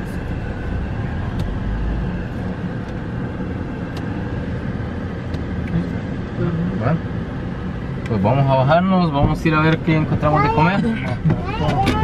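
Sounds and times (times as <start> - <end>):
car engine and traffic rumble: 0.0 - 12.0.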